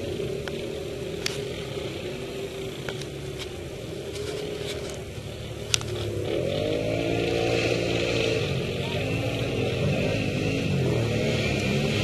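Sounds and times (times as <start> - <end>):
distant atv engines running: 0.0 - 12.0.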